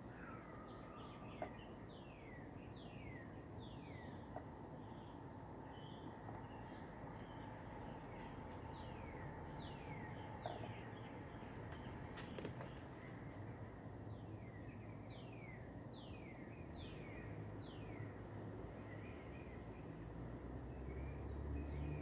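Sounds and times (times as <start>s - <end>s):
low background hum: 0.0s - 20.6s.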